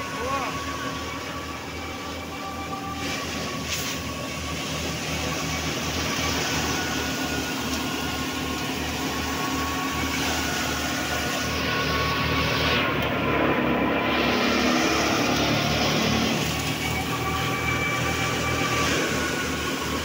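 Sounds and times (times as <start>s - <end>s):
paddy thresher drone: 0.0s - 20.0s.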